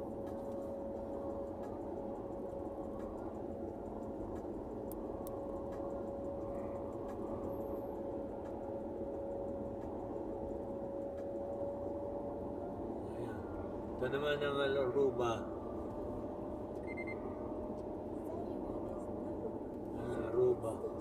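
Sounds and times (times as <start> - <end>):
constant whine: 0.0 - 21.0
road and engine rumble: 0.0 - 21.0.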